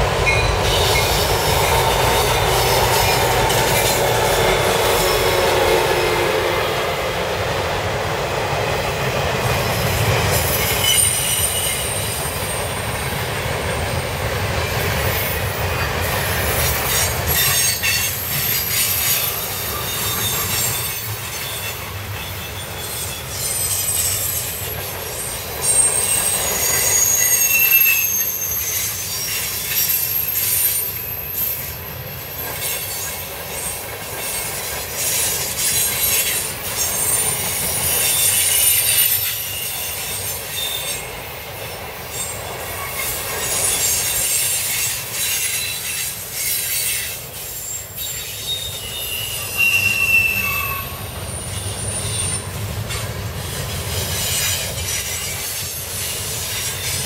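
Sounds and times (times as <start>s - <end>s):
train wheels rumbling and clattering: 0.0s - 57.0s
high thin wheel squeals: 0.2s - 6.7s, 9.6s - 13.0s, 14.9s - 41.2s, 42.1s - 57.0s.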